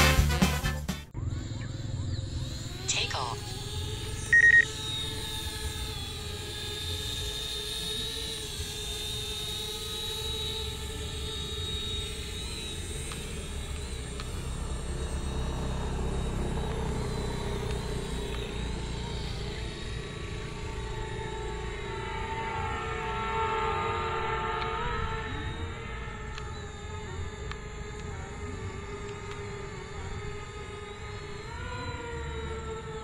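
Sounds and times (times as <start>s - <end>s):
drone propellers whining: 1.1s - 33.0s.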